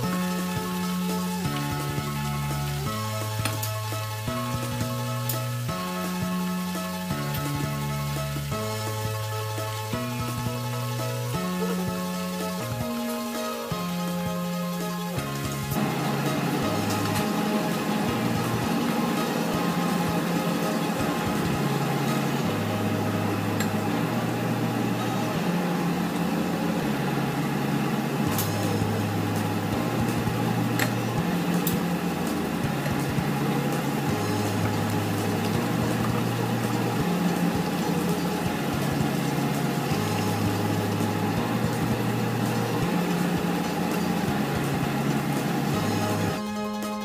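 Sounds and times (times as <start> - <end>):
oil sizzling in a frying pan: 0.0 - 46.4.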